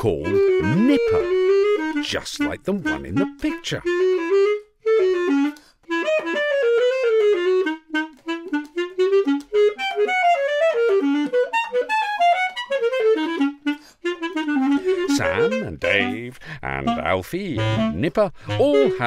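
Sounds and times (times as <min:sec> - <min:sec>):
basset horn melody: 0:00.0 - 0:19.0.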